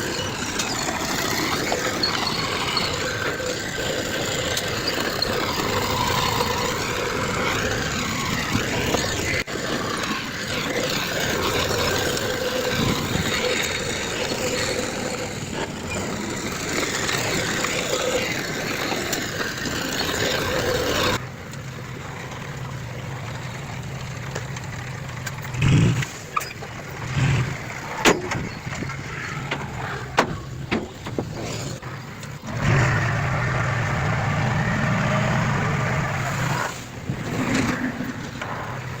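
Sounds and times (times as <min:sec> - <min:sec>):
heavy diesel machinery running: 0:00.0 - 0:39.0.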